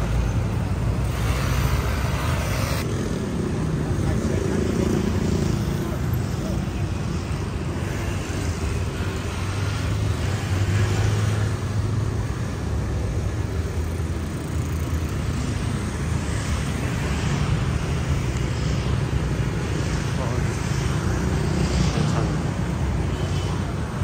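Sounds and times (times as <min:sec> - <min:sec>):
cars and scooters rumbling: 0:00.0 - 0:24.0.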